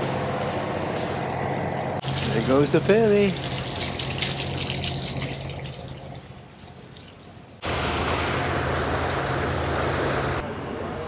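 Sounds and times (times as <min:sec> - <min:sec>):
ship engines humming: 0:00.0 - 0:11.0.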